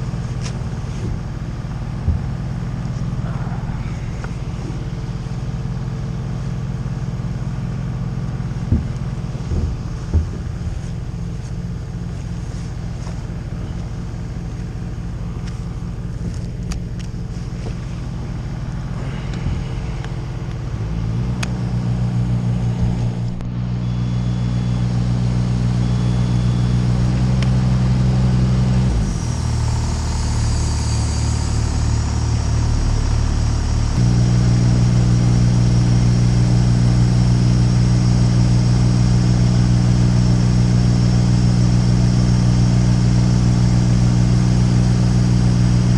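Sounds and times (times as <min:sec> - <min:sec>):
machine engine running: 0:00.0 - 0:45.9.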